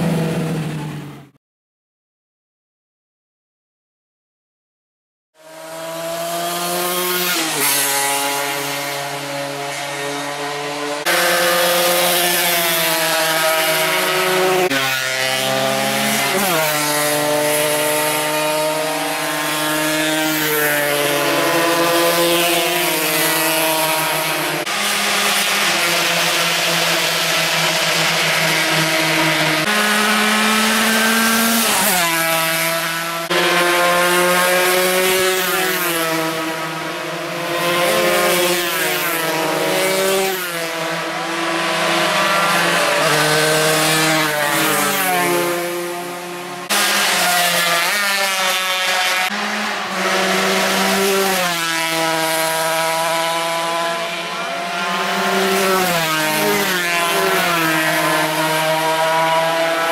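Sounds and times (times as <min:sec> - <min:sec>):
racing motorcycle engines revving: 0:00.0 - 0:01.3, 0:05.4 - 0:59.9.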